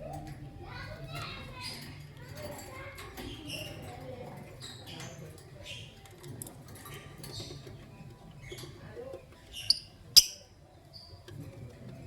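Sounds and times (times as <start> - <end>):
birds chirping and chattering: 0.0 - 12.0.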